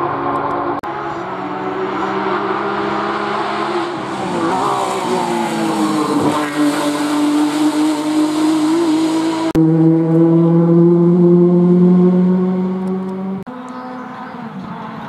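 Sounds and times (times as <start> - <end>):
distant race car engine: 0.0 - 15.0
race car engine passing by: 0.0 - 15.0.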